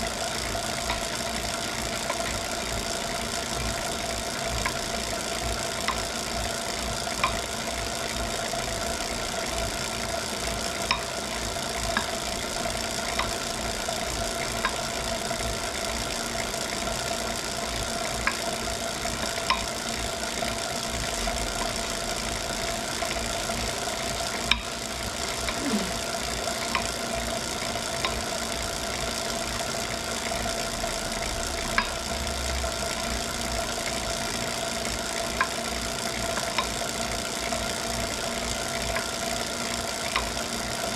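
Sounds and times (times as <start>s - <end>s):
bike trainer whine: 0.0s - 40.9s.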